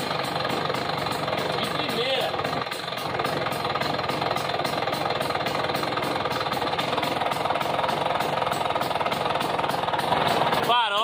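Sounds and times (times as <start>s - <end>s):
scooter engine puttering: 0.0s - 11.0s.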